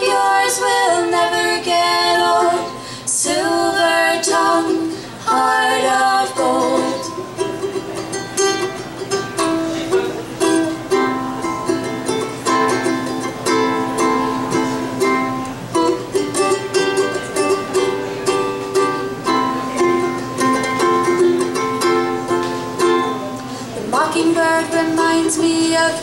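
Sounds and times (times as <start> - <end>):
ukulele strumming chords: 0.0 - 26.0.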